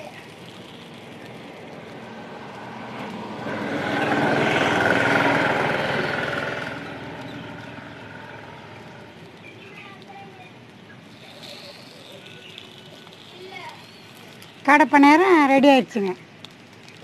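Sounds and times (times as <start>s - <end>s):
motor vehicle passing by: 0.0s - 17.0s.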